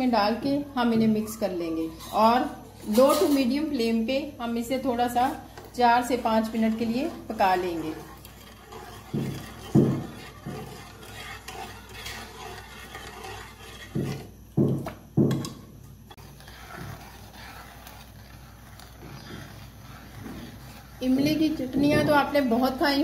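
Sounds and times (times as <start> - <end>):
spoon stirring in metal pan: 1.8 - 23.0.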